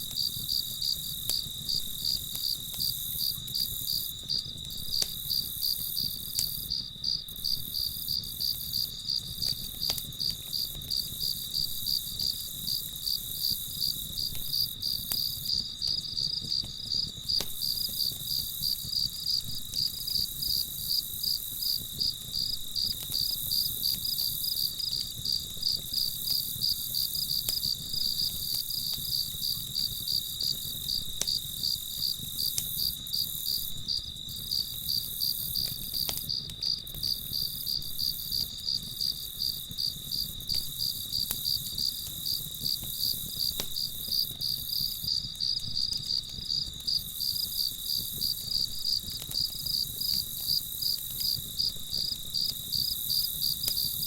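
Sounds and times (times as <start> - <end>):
crickets chirping: 0.0 - 54.0
faint campfire crackles: 0.0 - 54.0.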